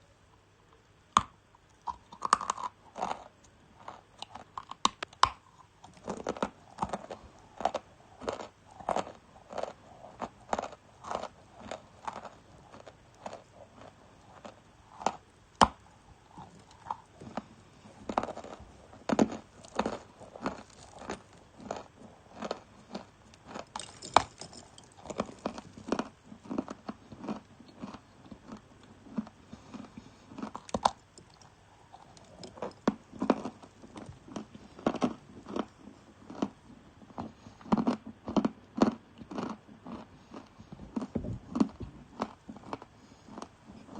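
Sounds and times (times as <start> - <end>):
crunching and chewing clay: 1.2 - 43.9.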